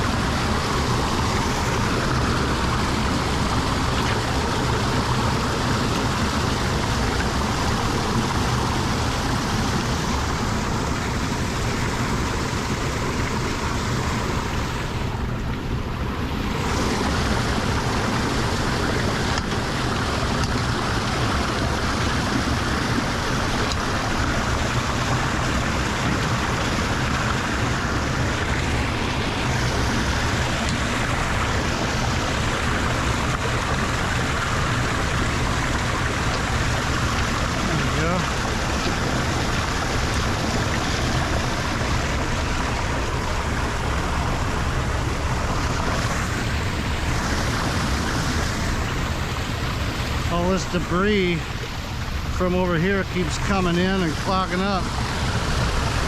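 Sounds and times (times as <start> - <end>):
water rushing into drain: 0.0 - 56.0.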